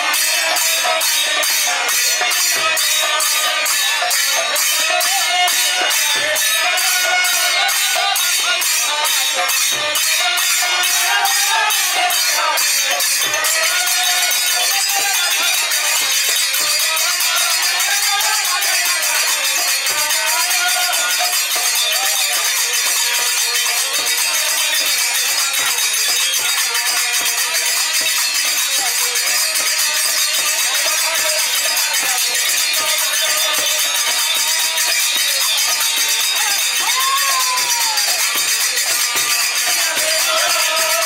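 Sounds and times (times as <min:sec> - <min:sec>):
harmoniums: 0:00.0 - 0:37.1, 0:38.0 - 0:41.0
barrel drum: 0:00.0 - 0:41.0
hand cymbals clashing: 0:00.0 - 0:41.0.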